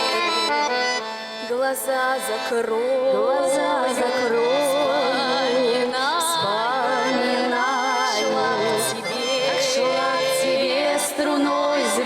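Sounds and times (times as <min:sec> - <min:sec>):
musical accompaniment: 0:00.0 - 0:12.0
women singing folk song: 0:01.4 - 0:12.0.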